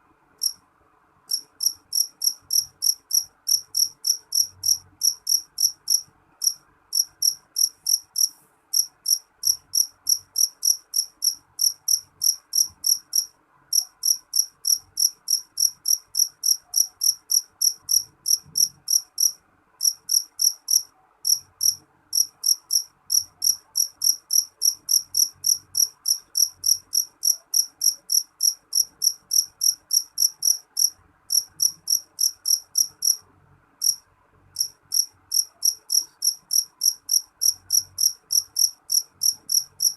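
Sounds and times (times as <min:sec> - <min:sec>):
cricket chirping: 0:01.3 - 0:33.2, 0:33.8 - 0:34.0, 0:34.6 - 0:39.9.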